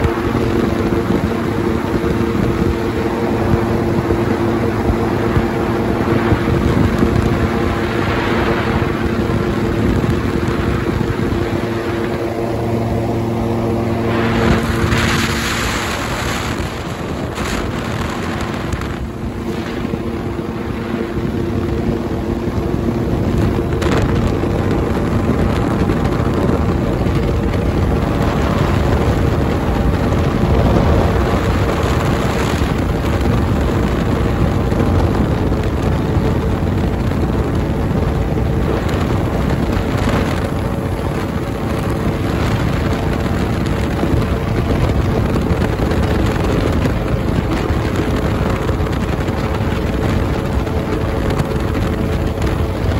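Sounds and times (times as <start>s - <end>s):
aircraft engine and propeller: 0.0s - 52.9s
wind buffeting microphone: 0.0s - 52.9s.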